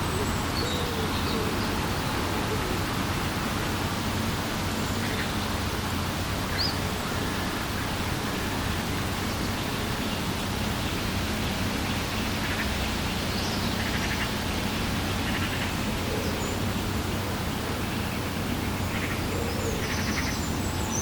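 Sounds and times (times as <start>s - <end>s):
outdoor ambient hiss: 0.0s - 21.0s.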